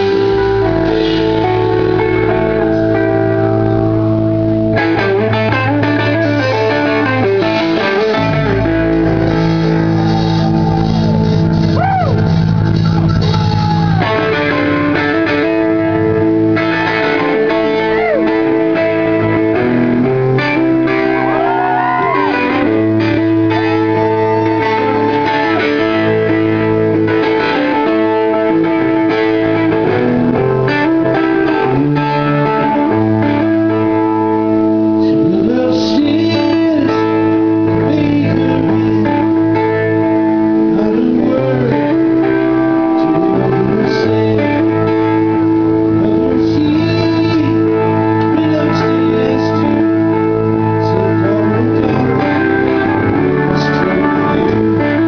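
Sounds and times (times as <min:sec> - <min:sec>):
blues rock band playing: 0:00.0 - 0:55.0
electric guitar with sliding notes: 0:00.0 - 0:55.0.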